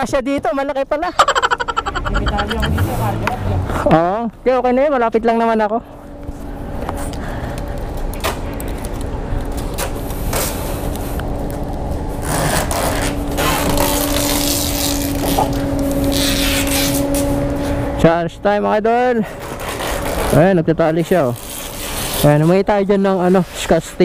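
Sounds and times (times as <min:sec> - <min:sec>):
engine hum: 0:01.1 - 0:22.1.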